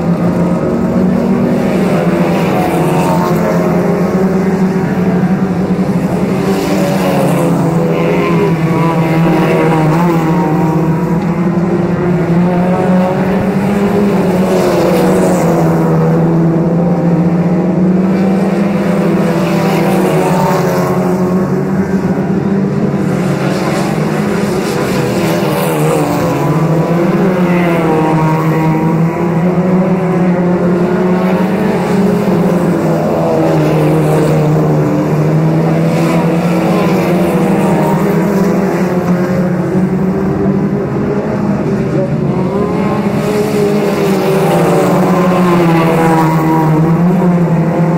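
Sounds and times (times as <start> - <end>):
racing car engines droning: 0.0 - 47.9.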